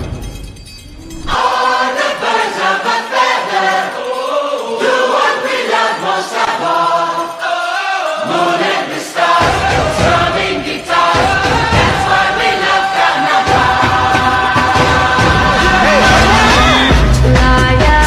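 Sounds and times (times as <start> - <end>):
music with voices singing together: 1.2 - 18.0.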